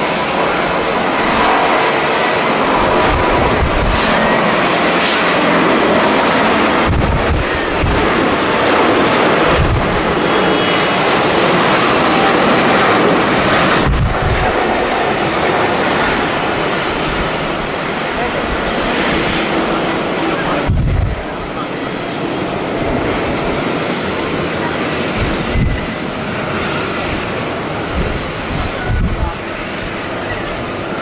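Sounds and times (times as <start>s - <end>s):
jet engines running: 0.0s - 31.0s
wind buffeting microphone: 0.0s - 31.0s.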